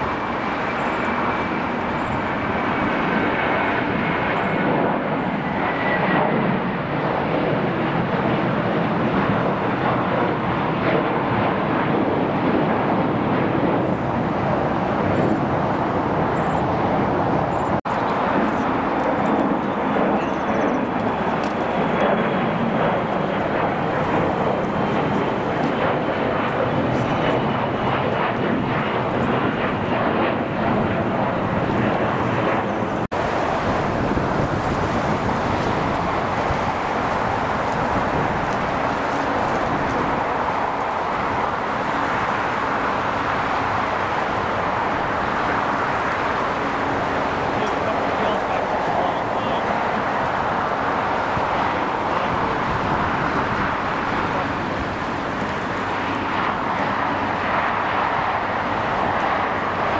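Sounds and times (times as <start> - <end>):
faint high engine whine: 0.0 - 59.9
jet engines running: 0.0 - 59.9.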